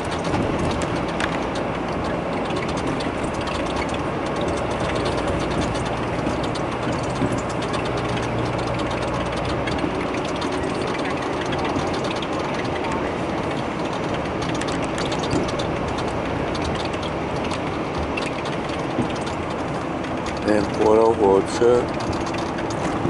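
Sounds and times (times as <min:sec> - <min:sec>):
freight train rattling clicks: 0:00.0 - 0:23.0
vehicle low rumble: 0:00.0 - 0:23.0.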